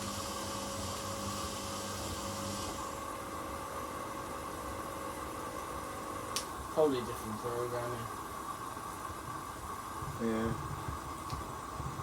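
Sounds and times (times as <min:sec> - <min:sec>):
washing machines humming: 0:00.0 - 0:12.0.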